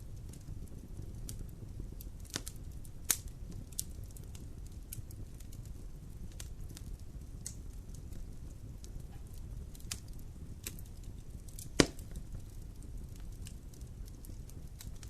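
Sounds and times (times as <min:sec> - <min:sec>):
fire crackling in a fireplace: 0:00.0 - 0:15.0
loud pop of fire: 0:00.0 - 0:15.0.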